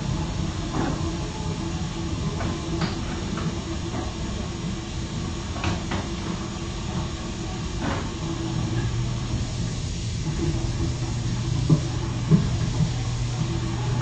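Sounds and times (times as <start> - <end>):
room hum with hiss: 0.0 - 14.0.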